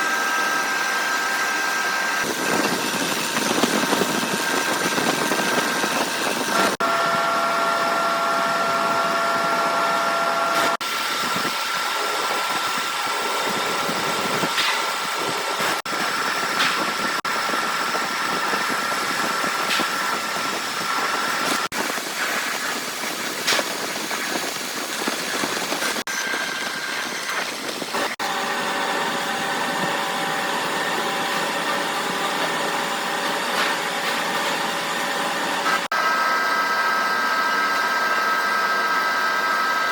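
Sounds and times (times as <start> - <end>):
workshop machinery whining hum: 0.0 - 39.9.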